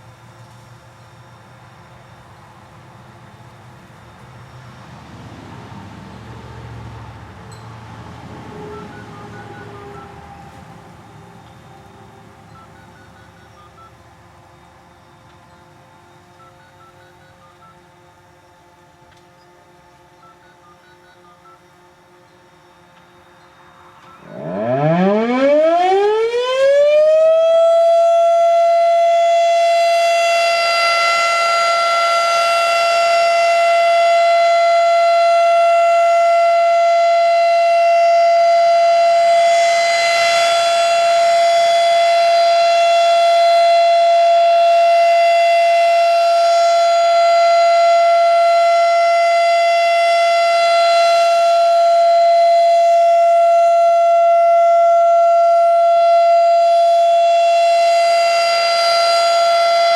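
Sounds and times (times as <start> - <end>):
warning siren steady tone: 0.0 - 59.9.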